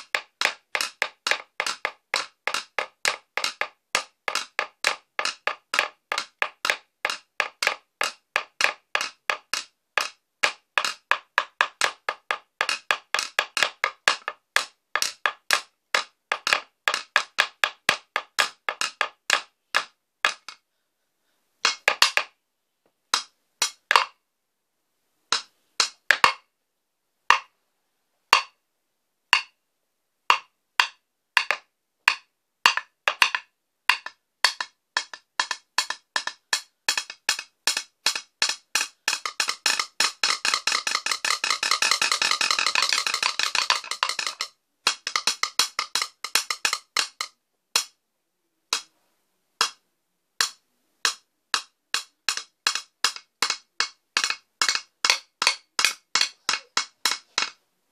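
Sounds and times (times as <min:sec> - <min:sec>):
drumming on wooden stool: 0:00.0 - 0:20.6, 0:21.6 - 0:22.4, 0:25.3 - 0:26.4, 0:27.3 - 0:27.5, 0:28.3 - 0:28.6, 0:29.3 - 0:29.6, 0:30.3 - 0:47.9, 0:50.4 - 0:57.6.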